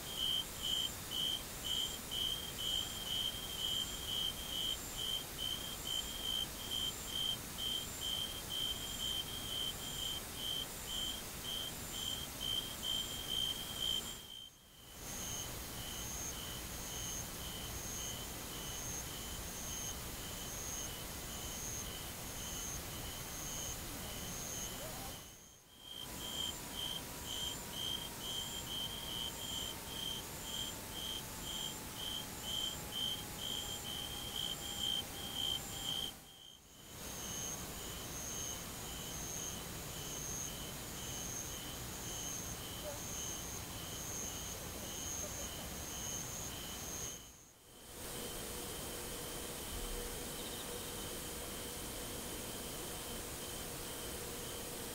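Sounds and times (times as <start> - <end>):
faint hiss: 0.0 - 54.9
insects chirping: 0.0 - 54.9.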